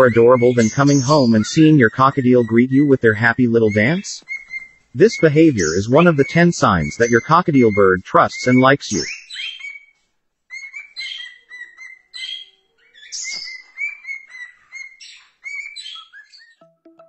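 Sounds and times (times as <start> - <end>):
cockatiels chirping: 0.0 - 16.6.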